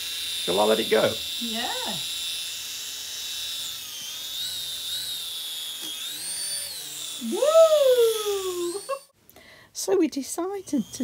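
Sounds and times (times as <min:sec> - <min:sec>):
toy propellers whirring: 0:00.0 - 0:09.1, 0:09.8 - 0:11.0.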